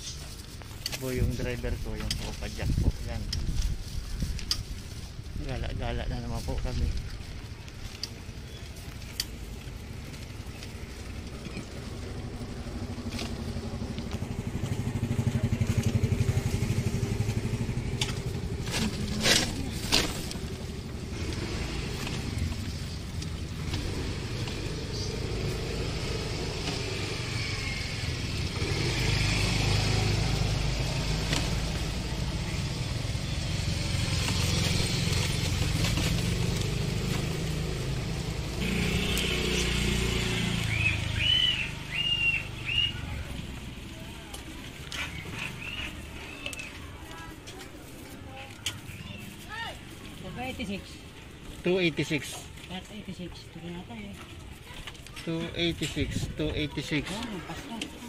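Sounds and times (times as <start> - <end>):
motor traffic passing: 0.0 - 58.0
road rumble: 0.0 - 58.0.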